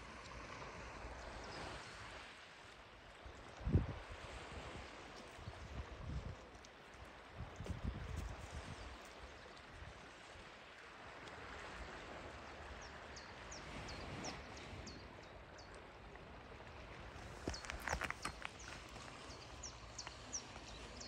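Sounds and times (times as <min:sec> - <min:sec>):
sea: 0:00.0 - 0:21.0
wind: 0:00.0 - 0:21.0.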